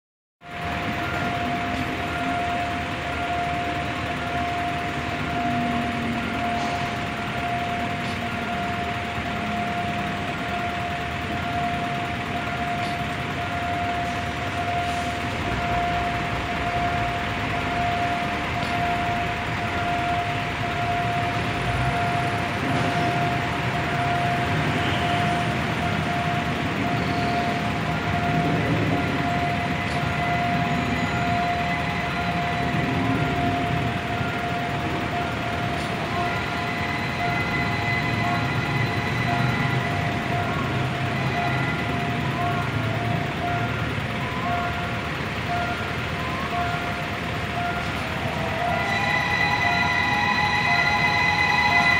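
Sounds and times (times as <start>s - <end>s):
road traffic noise: 0.4s - 51.9s
steady high tone: 0.4s - 51.9s.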